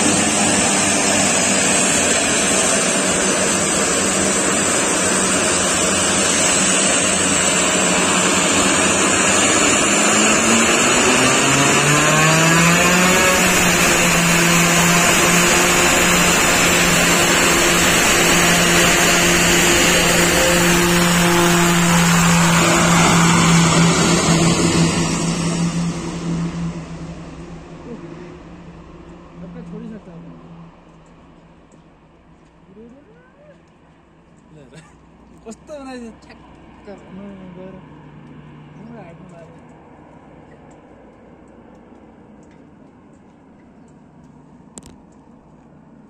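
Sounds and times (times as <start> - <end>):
turboprop engines powering up: 0.0 - 46.0.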